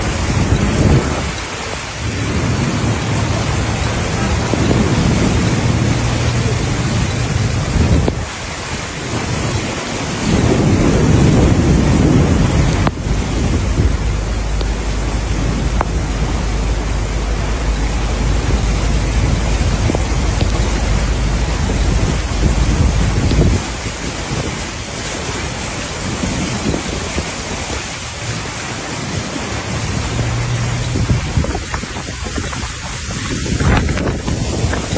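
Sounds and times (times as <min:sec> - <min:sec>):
floodwater rushing: 0:00.0 - 0:34.9
low rumble: 0:00.0 - 0:34.9
torrential rain pouring: 0:00.0 - 0:34.9
wind buffeting microphone: 0:00.0 - 0:34.9.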